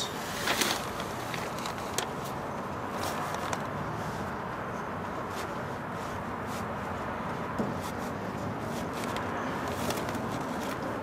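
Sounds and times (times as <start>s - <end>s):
carpet rustling: 0.1s - 4.2s, 5.0s - 11.0s.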